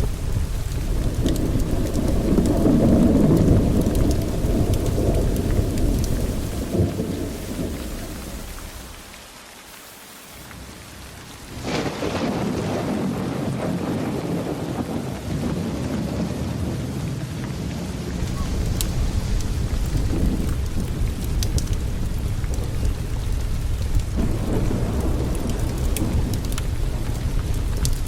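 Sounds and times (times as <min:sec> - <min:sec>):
rolling thunder: 0:00.0 - 0:09.1, 0:10.7 - 0:28.0
steady rain: 0:00.0 - 0:28.0.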